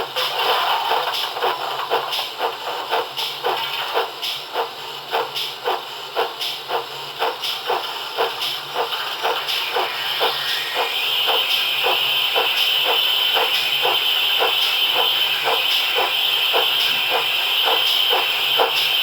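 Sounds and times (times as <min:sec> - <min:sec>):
steam exhaust beats: 0:00.0 - 0:19.0
steam hissing: 0:00.0 - 0:19.0.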